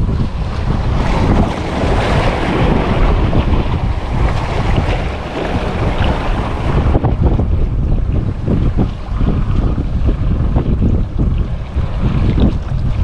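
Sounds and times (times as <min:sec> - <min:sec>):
sea waves rushing: 0:00.0 - 0:13.0
wind buffeting microphone: 0:00.0 - 0:13.0.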